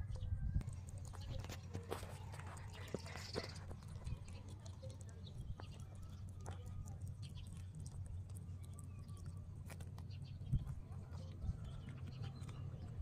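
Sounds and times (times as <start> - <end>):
rabbits chewing greens: 0.0 - 13.0.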